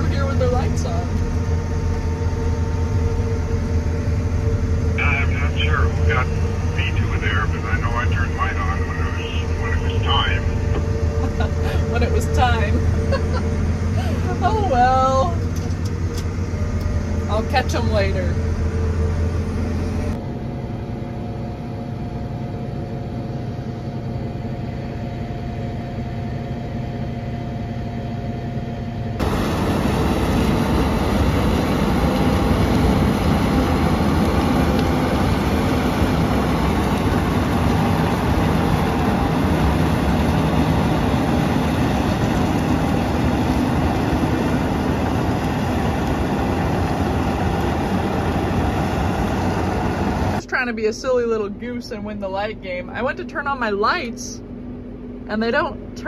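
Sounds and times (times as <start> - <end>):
combine harvester running: 0.0 - 56.0
tractor engine running: 0.0 - 56.0.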